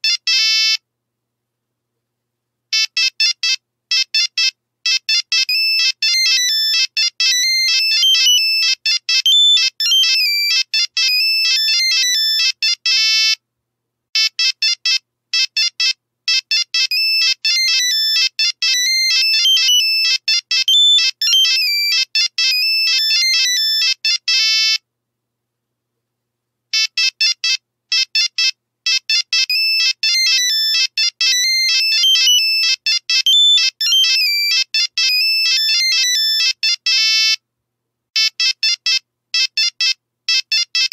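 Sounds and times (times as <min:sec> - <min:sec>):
electronic phone ringtone melody: 0:02.8 - 0:13.4, 0:14.2 - 0:24.8, 0:26.8 - 0:37.4, 0:38.2 - 0:40.9.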